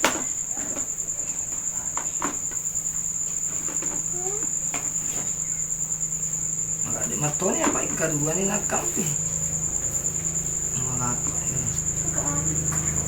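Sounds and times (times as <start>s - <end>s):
high-pitched insect trill: 0.0s - 13.0s
faint low hum: 0.1s - 13.0s.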